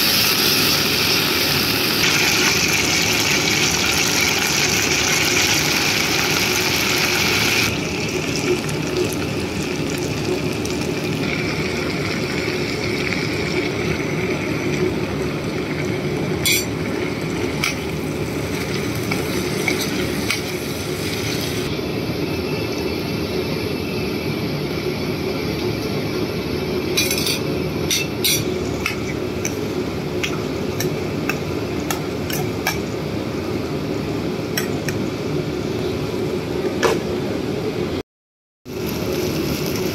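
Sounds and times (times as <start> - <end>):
chicken sizzling in hot oil: 0.0 - 33.0, 38.7 - 39.9.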